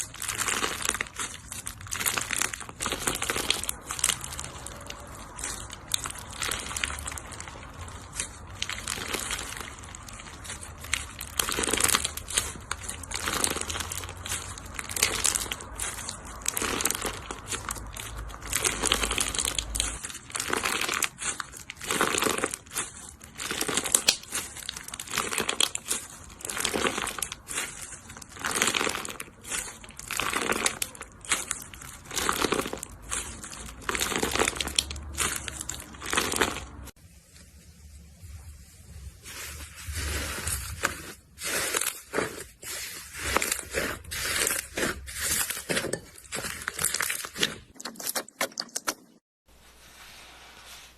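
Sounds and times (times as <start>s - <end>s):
crunchy slime crackling: 0.0s - 37.0s, 38.6s - 47.8s.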